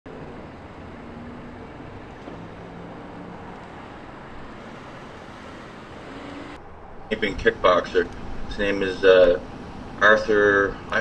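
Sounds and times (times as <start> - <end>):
rushing outdoor background noise: 0.1 - 11.0.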